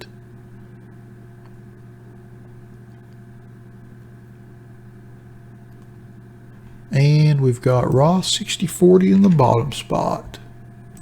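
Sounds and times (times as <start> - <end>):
low electrical hum with hiss: 0.0 - 11.0.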